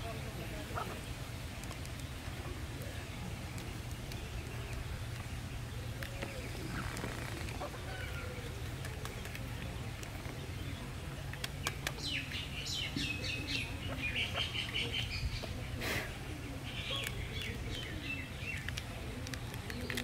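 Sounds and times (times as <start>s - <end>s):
faint distant voices: 0.0s - 20.0s
faint bird calls: 2.1s - 20.0s.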